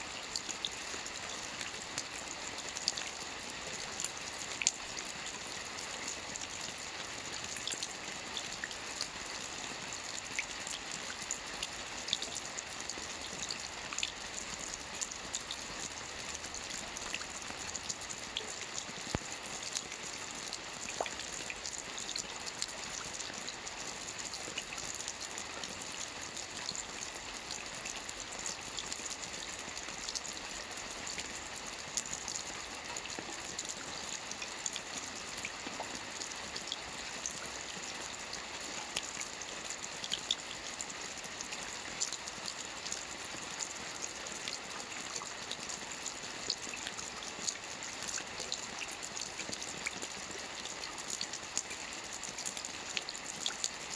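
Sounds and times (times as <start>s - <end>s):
rain pattering on a roof: 0.0s - 53.9s.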